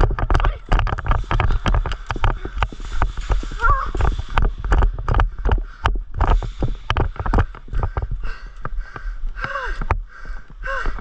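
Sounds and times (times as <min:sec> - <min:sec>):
clicks and knocks: 0:00.0 - 0:10.0
rustling: 0:00.0 - 0:11.0.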